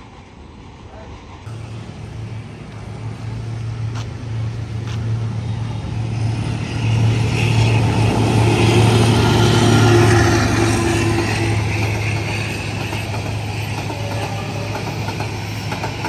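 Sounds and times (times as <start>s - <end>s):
locomotive engine hum: 0.0s - 16.0s
train rolling rail noise: 0.0s - 16.0s.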